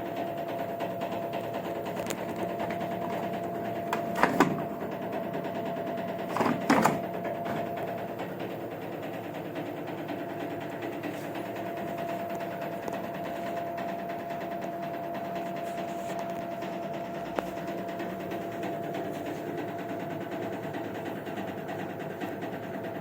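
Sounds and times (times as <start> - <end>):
washing machine drum knocking: 0.0 - 15.6, 16.4 - 23.0
washing machine motor hum: 0.0 - 23.0.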